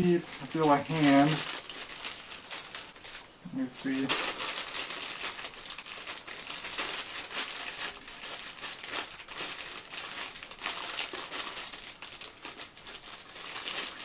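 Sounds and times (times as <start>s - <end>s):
foil bag crinkling: 0.0s - 14.0s.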